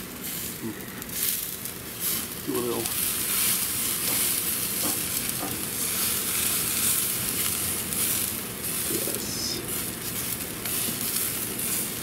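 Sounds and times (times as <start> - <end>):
patties sizzling on a grill: 0.0 - 12.0.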